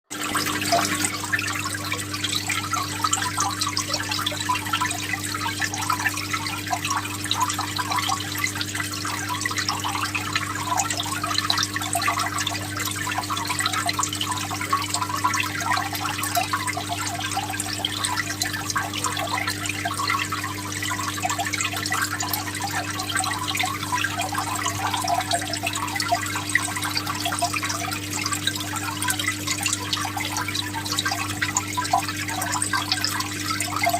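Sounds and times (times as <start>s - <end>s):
aquarium water bubbling: 0.1s - 33.9s.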